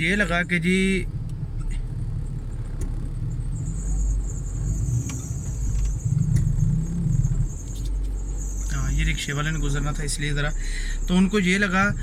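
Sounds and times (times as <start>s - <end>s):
car cabin rumble: 0.0s - 12.0s
low wavering hum: 0.9s - 12.0s.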